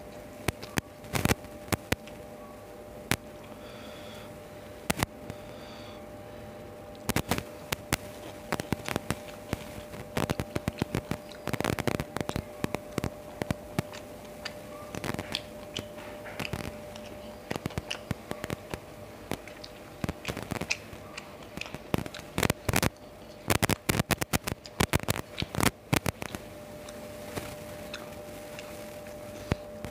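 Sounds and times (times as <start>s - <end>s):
fingers mashing rice: 0.0s - 2.3s, 6.8s - 29.9s
chewing with mouth clicks: 0.0s - 3.6s, 6.8s - 29.9s
faint steady hum: 0.0s - 29.9s.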